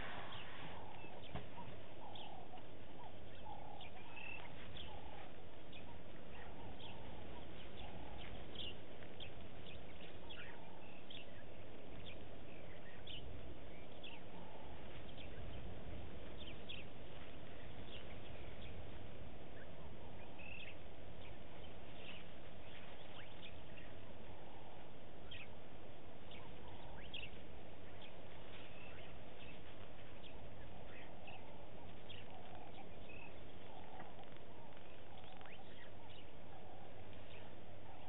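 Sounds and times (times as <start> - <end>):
birds chirping: 0.0 - 38.0
steady low background noise: 0.0 - 38.0.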